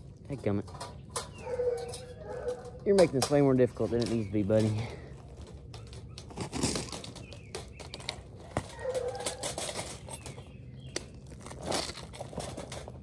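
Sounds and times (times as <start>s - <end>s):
wire cage rattling: 0.3s - 13.0s
metal clicks and scrapes: 0.4s - 13.0s.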